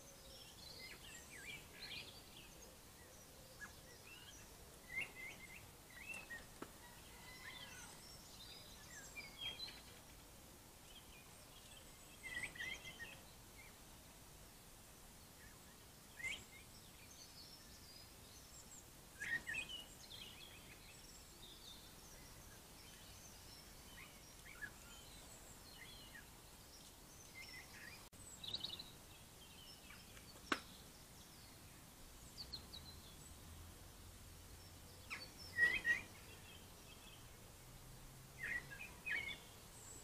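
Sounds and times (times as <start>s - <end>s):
faint steady hiss: 0.0s - 40.0s
small birds chirping: 0.0s - 40.0s.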